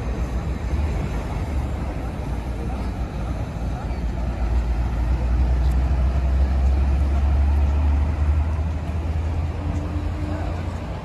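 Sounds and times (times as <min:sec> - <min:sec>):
bus engine rumble: 0:00.0 - 0:11.0
street traffic: 0:00.0 - 0:11.0.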